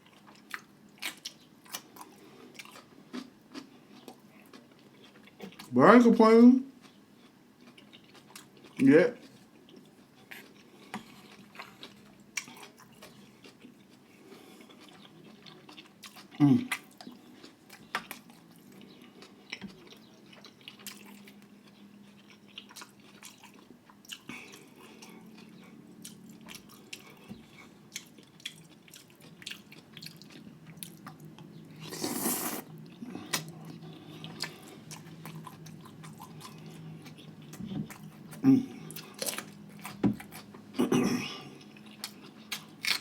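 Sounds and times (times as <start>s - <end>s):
chewing and crunching food: 0.0s - 5.8s, 6.7s - 43.0s.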